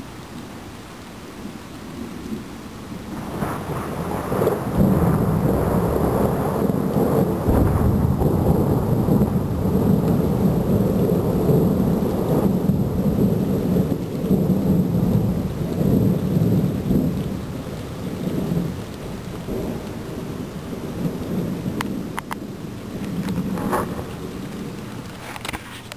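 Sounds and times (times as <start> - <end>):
steady rain: 0.0 - 25.9
rolling thunder rumble: 2.0 - 25.1.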